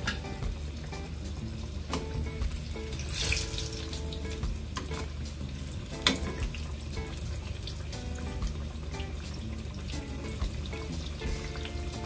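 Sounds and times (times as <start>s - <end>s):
eggplant sizzling in oil: 0.0s - 12.0s.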